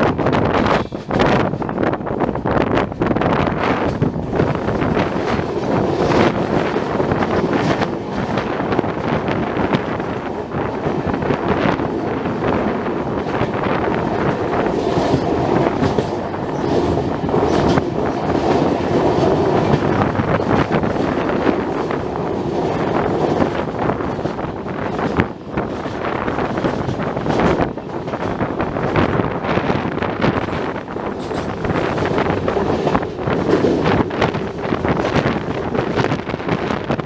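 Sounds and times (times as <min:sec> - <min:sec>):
train wheels rumbling on track: 0:00.0 - 0:37.0
wheels clacking over rail joints: 0:00.0 - 0:37.0.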